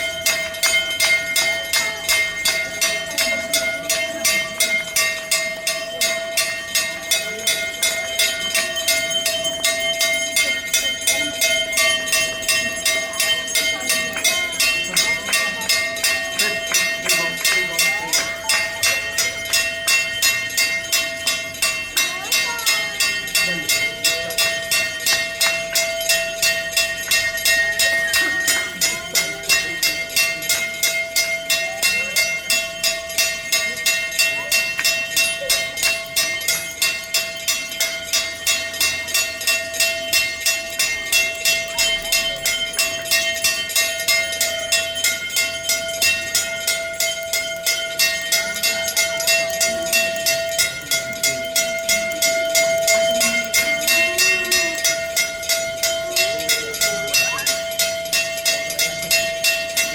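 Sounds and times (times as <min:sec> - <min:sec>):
temple bell ringing: 0:00.0 - 0:59.9.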